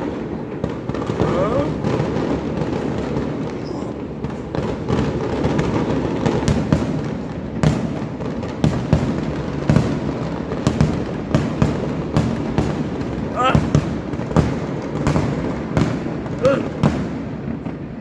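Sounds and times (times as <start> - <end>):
rumble of fireworks explosions: 0.0 - 18.0
sharp firework bangs and cracks: 0.0 - 18.0.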